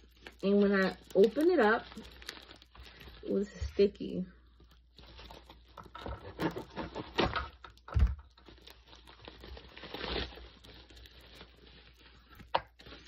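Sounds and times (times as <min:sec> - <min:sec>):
packaging bag rustling: 0:00.0 - 0:13.0.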